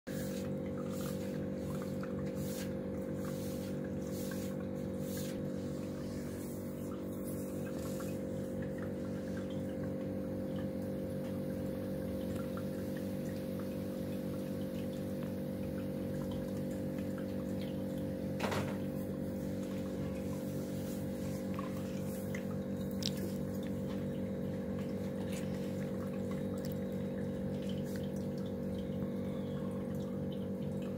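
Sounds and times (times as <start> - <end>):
filter pump hum: 0.1 - 30.9
water splashing and trickling: 0.1 - 30.9.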